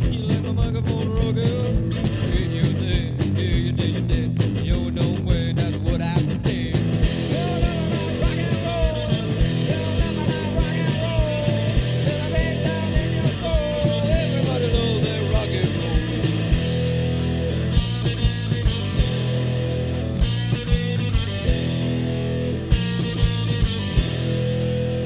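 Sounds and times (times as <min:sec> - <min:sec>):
bass and chords: 0:00.0 - 0:25.0
bending lead guitar line: 0:00.0 - 0:25.0
drums: 0:00.0 - 0:25.0.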